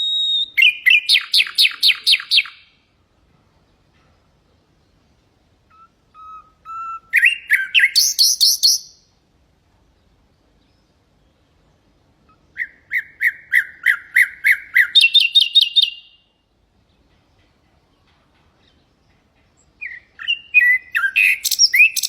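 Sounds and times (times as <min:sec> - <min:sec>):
nightingale singing: 0:00.0 - 0:03.0, 0:03.6 - 0:09.2, 0:09.9 - 0:22.0.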